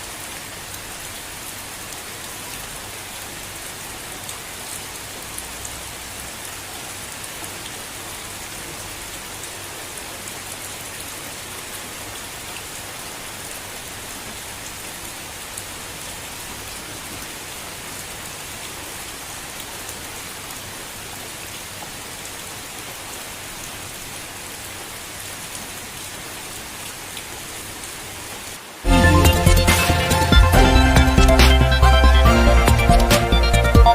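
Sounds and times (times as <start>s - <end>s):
gentle rain falling: 0.0s - 33.9s.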